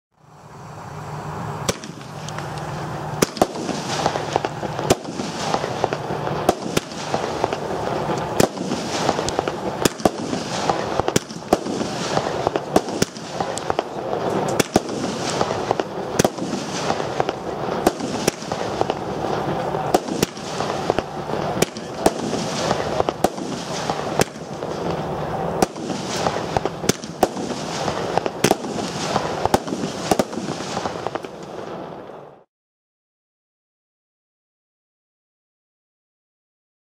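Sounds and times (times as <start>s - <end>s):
rushing crackling of launches: 0.2s - 32.4s
firework bangs: 0.9s - 32.5s.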